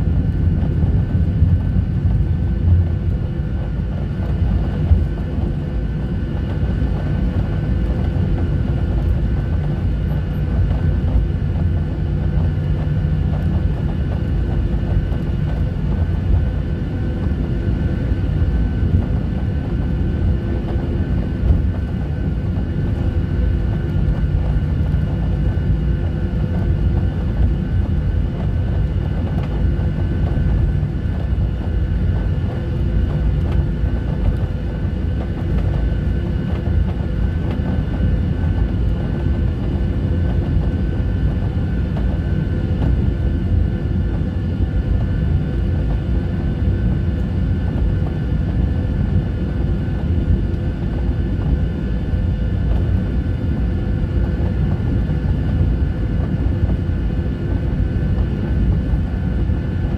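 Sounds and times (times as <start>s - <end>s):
faint steady engine tones: 0.0s - 59.9s
jet engines and wheels rumbling: 0.0s - 59.9s.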